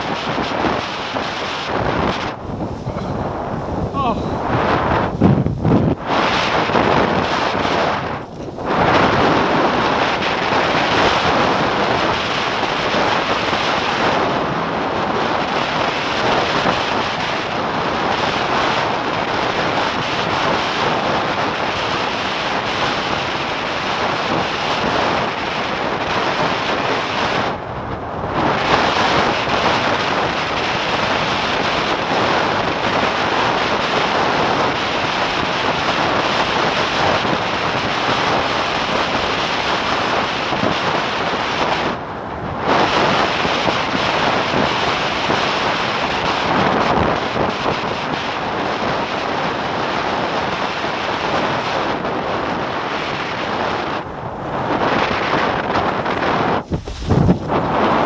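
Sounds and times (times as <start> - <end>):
board skimming over water: 0.0 - 58.0
wind buffeting microphone: 0.0 - 58.0.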